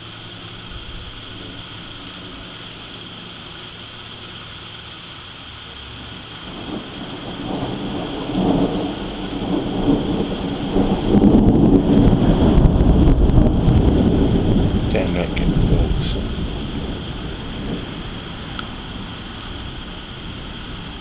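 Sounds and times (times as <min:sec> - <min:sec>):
thunder rumbling: 0:00.0 - 0:04.8, 0:06.0 - 0:21.0.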